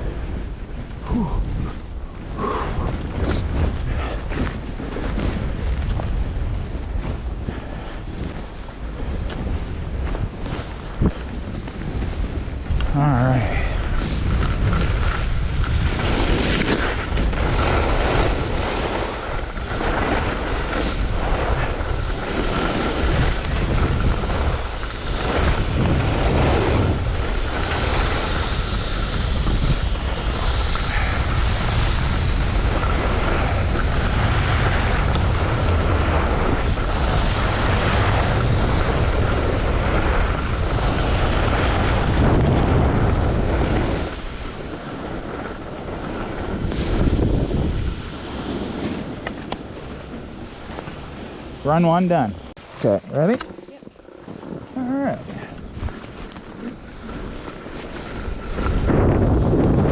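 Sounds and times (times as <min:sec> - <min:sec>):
skis scraping through snow: 0:00.0 - 0:59.9
wind rushing over microphone: 0:00.0 - 0:59.9.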